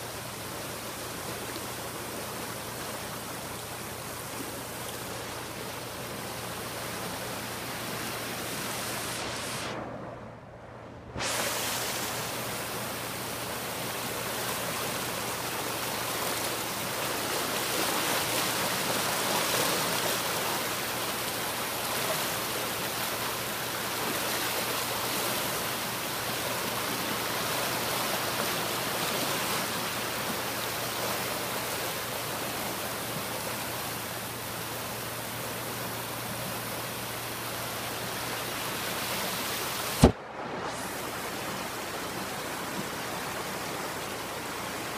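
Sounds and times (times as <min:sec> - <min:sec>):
floodwater rushing: 0:00.0 - 0:44.9.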